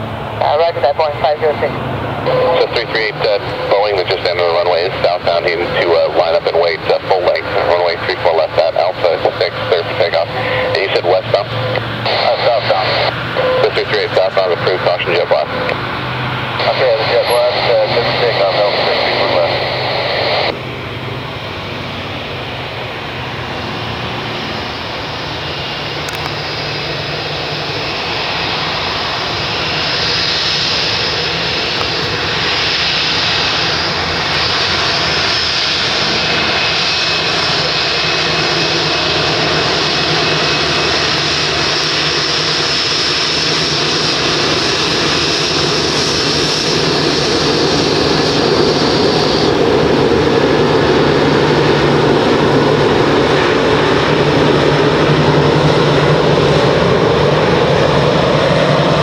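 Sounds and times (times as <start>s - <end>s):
jet engine roar and whine: 0.0s - 59.0s.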